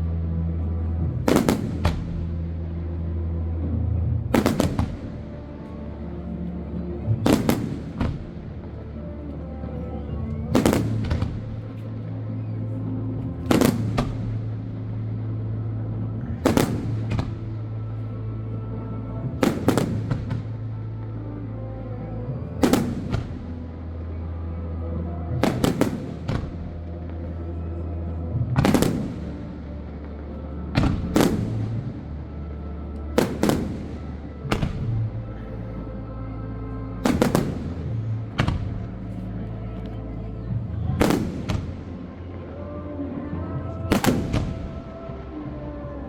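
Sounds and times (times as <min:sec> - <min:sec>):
background music with held notes: 0:00.0 - 0:46.0
fireworks exploding: 0:00.7 - 0:21.1, 0:22.0 - 0:24.0, 0:25.3 - 0:36.0, 0:37.0 - 0:46.0.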